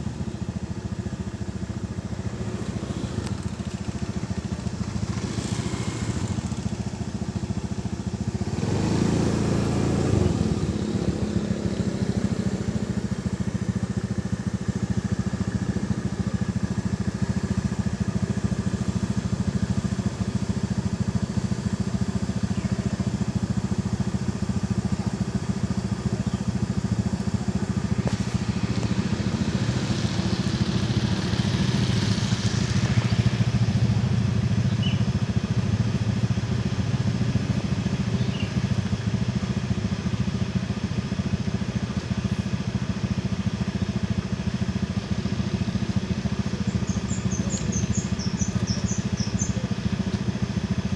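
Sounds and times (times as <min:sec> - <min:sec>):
engine humming steadily: 0:00.0 - 0:50.9.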